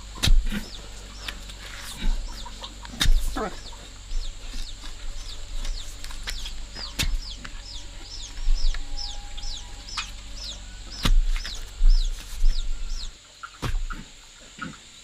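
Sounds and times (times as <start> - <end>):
low rumbling: 0.0 - 13.2
chicks peeping: 0.0 - 14.9.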